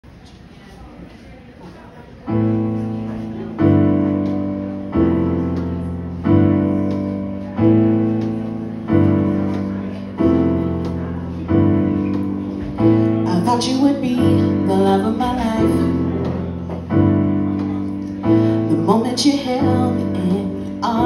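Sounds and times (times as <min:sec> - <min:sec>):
electronic keyboard piano chords: 0:02.3 - 0:21.0.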